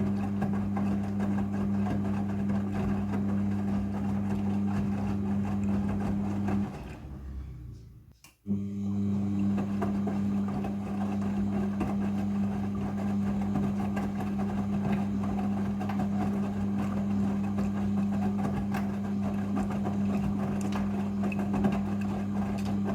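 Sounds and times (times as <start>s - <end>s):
washing machine motor hum: 0.0s - 22.9s.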